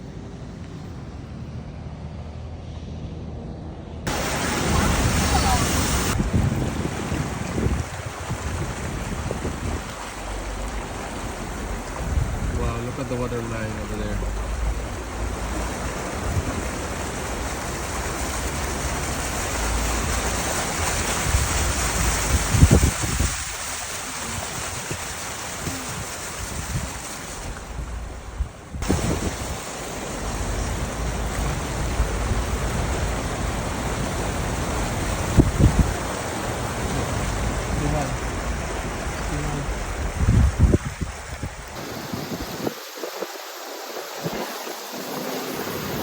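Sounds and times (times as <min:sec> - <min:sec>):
wind buffeting microphone: 0:04.1 - 0:46.0.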